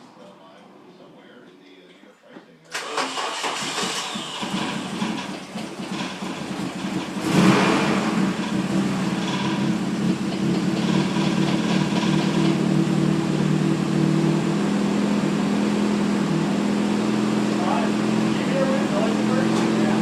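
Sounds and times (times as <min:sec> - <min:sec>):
car engine cranking and starting: 0:02.7 - 0:20.0.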